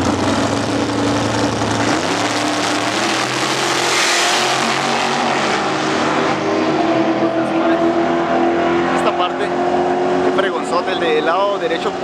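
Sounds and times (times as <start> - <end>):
dragster engines roaring: 0.0 - 12.0.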